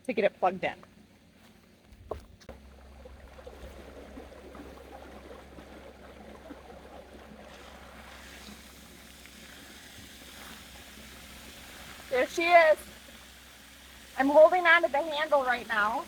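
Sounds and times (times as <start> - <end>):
pump humming: 0.0 - 16.0
rush of water: 2.8 - 16.0.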